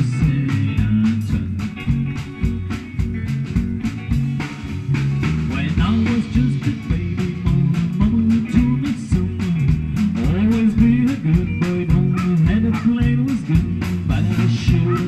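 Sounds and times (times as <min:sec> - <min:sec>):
bass guitar: 0:00.0 - 0:15.0
drum kit beat: 0:00.0 - 0:15.0
electric guitars: 0:00.0 - 0:15.0.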